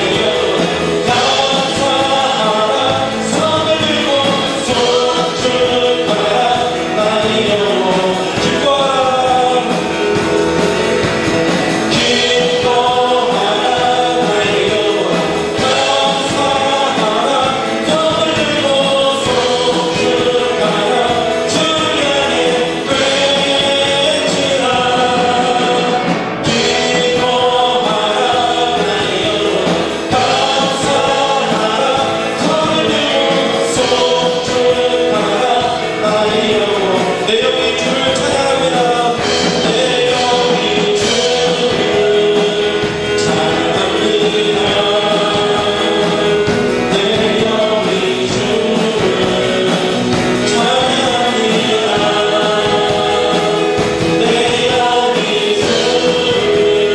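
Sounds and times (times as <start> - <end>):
congregation singing worship song: 0.0 - 56.9
instrumental accompaniment: 0.0 - 56.9.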